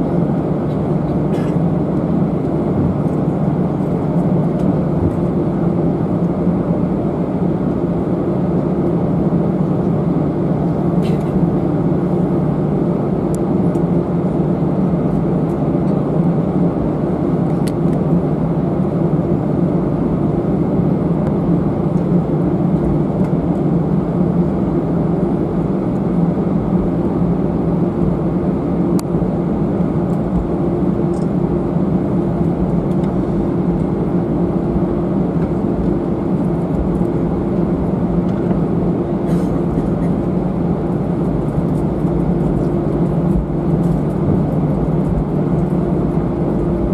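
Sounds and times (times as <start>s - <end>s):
airliner cabin engine drone: 0.0s - 46.9s.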